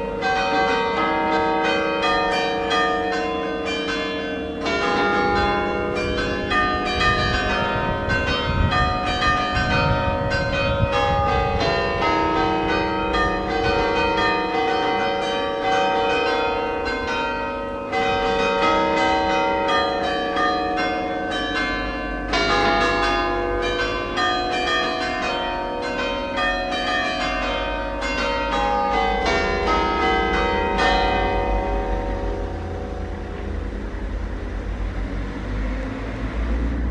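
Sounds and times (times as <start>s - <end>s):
church bells pealing: 0.0s - 36.9s.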